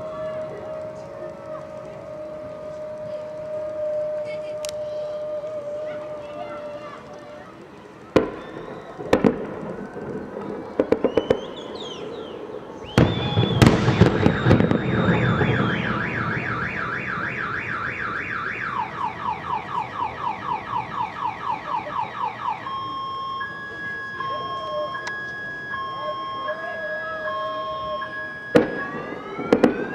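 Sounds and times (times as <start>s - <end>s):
car alarm wailing: 0.0s - 29.9s
fireworks banging and crackling: 0.0s - 29.9s.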